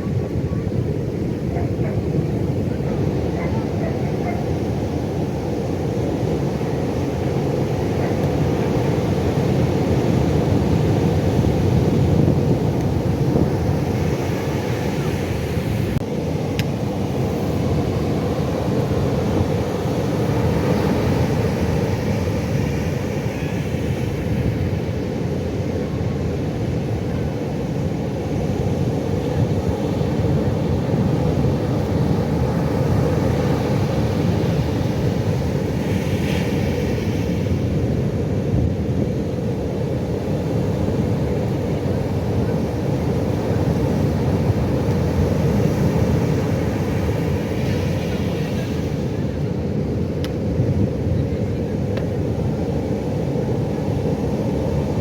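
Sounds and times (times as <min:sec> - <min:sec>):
ocean waves breaking: 0:00.0 - 0:25.7, 0:27.6 - 0:55.0.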